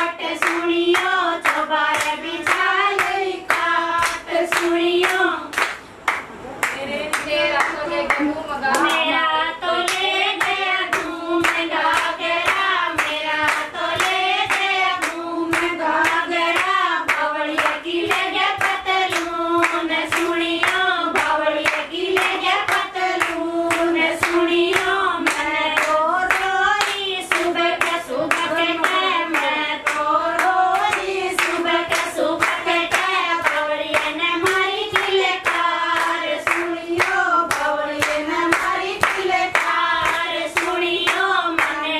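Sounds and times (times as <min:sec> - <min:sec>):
women singing folk song: 0:00.0 - 0:05.5, 0:07.0 - 0:41.9
hand-clapping: 0:00.0 - 0:09.0, 0:09.8 - 0:41.9.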